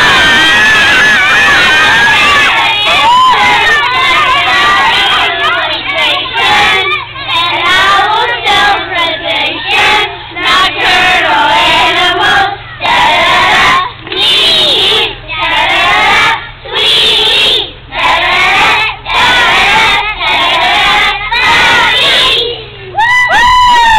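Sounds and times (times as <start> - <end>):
children singing in unison: 0.0 - 22.7.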